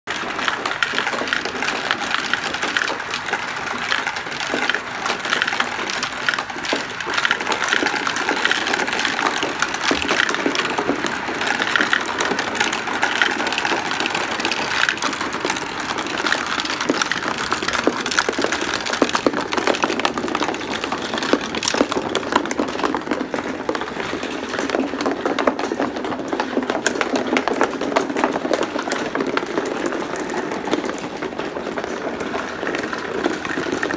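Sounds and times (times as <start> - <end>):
marbles rolling and clicking: 0.1 - 33.9.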